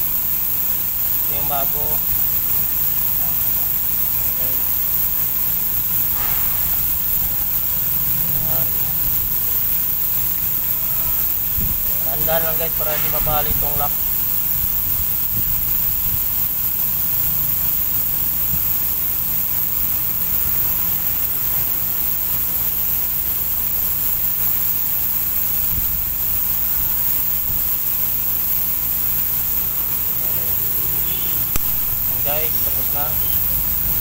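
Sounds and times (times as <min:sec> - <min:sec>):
constant high hiss: 0:00.0 - 0:34.0
steady low hum: 0:00.0 - 0:34.0.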